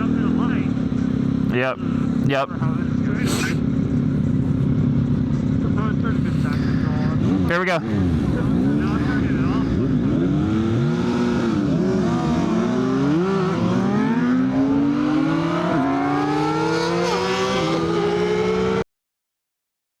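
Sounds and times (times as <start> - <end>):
motorcycle engine accelerating: 0.0 - 18.8.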